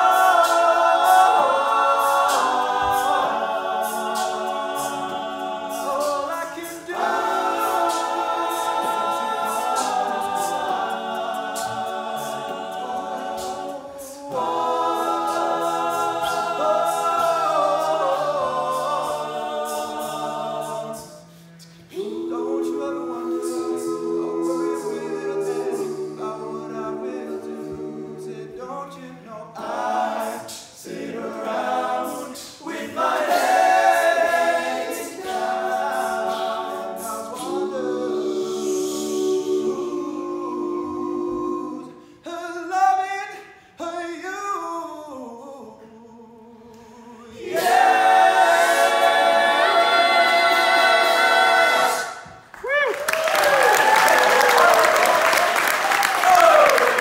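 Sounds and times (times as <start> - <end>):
male a cappella group singing: 0.0 - 52.5.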